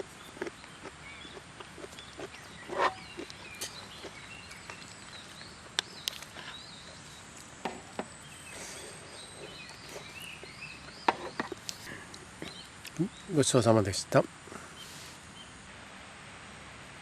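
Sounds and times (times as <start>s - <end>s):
small birds chirping: 0.0s - 15.7s.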